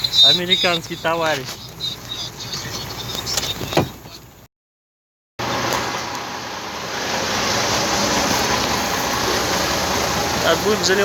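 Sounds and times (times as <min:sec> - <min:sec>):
rushing vehicle noise: 0:00.0 - 0:04.5, 0:05.4 - 0:11.0.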